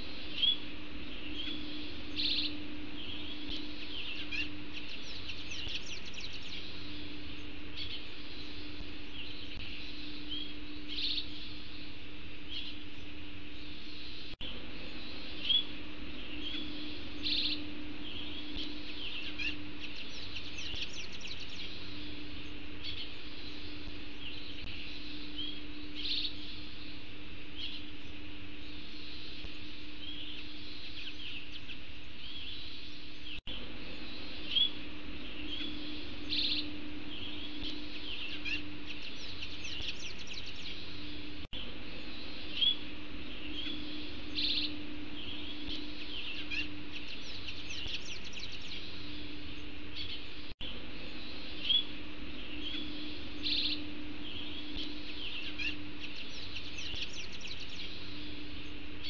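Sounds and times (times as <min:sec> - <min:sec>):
small songbirds chirping: 0:00.0 - 0:59.0
steady low hum: 0:00.0 - 0:59.0.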